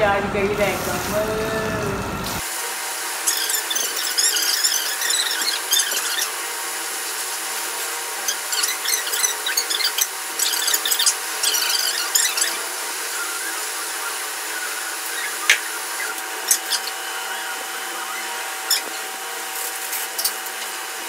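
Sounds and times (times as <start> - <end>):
running water: 3.2 - 20.9.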